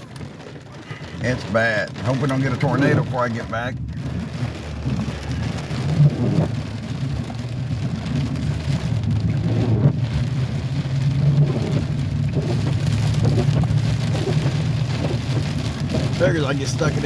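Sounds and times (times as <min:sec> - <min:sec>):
engine and road rumble: 0:00.0 - 0:17.0
heavy rain on a truck: 0:00.0 - 0:17.0.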